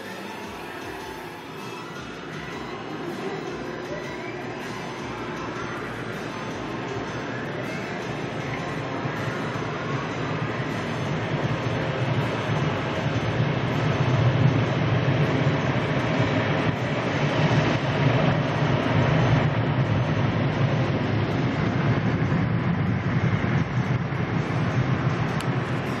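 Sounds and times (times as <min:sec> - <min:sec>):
car wash drying blowers: 0:00.0 - 0:26.0.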